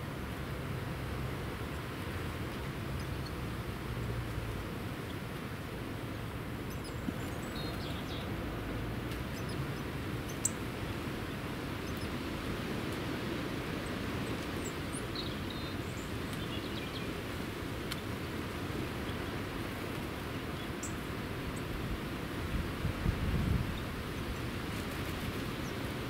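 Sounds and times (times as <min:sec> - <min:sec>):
outdoor hiss and low rumble: 0:00.0 - 0:26.0
small birds chirping: 0:04.7 - 0:26.0.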